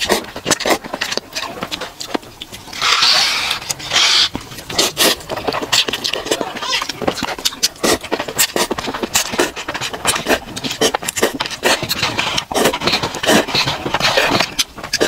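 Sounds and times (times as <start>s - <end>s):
slurping noodles: 0.0s - 15.0s
wet chewing: 0.0s - 15.0s.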